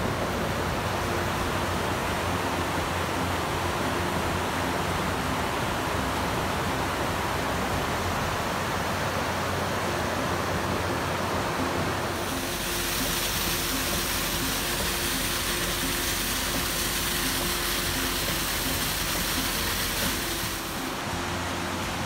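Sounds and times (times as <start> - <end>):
waterfall rushing and splashing: 0.0 - 22.0.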